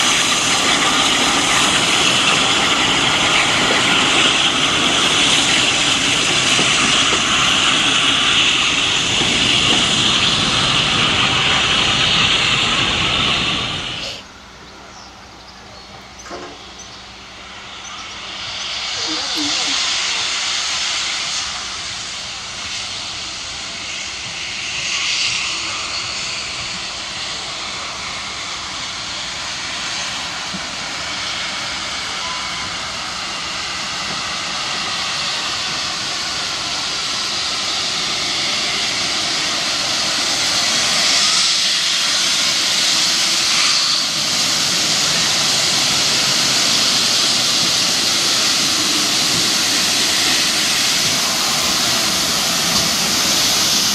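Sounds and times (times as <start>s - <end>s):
steam locomotive hissing: 0.0s - 53.9s.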